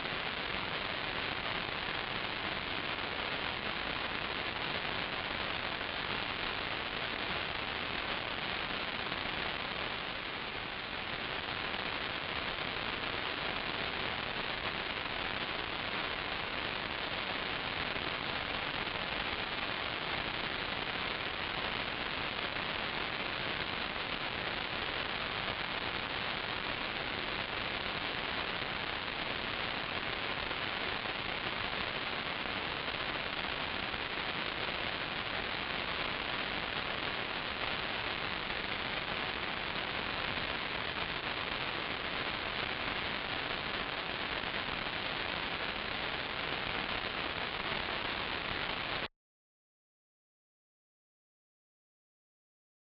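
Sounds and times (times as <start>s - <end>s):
static hiss: 0.0s - 49.1s.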